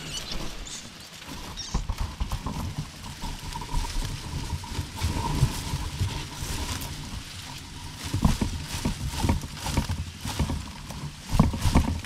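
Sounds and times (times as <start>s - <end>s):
dry leaves rustling: 0.0s - 12.0s.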